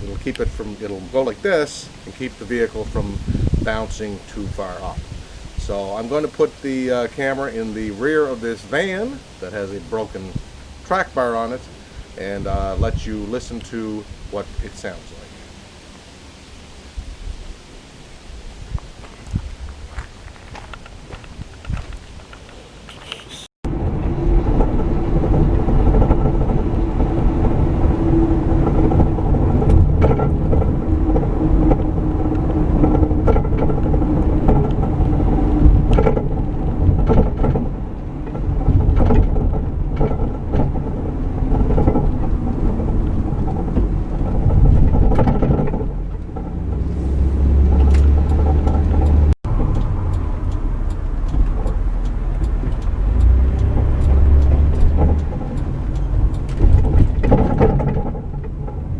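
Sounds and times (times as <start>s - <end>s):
suspension clunking: 0.0s - 15.5s, 19.0s - 58.9s
road and driveline rumble: 0.0s - 58.9s.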